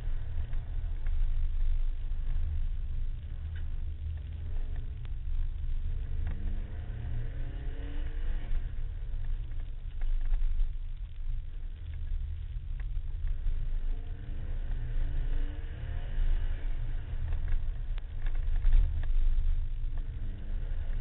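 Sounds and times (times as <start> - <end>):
rally car engine accelerating: 0.0 - 11.2, 11.8 - 21.0.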